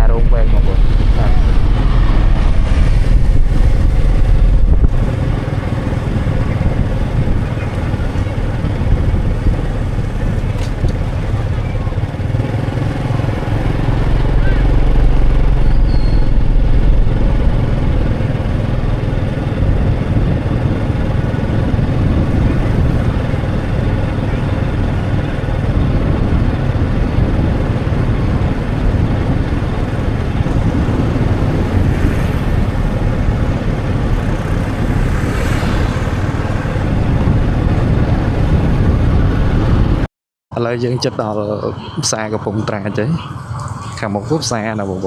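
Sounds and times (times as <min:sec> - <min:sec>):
motorcycle engine running: 0:00.0 - 0:40.0
wind buffeting microphone: 0:00.0 - 0:40.1.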